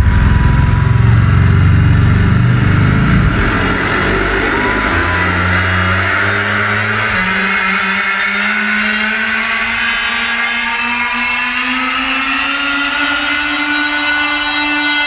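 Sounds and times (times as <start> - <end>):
synth riser climbing in pitch: 0.0 - 15.0.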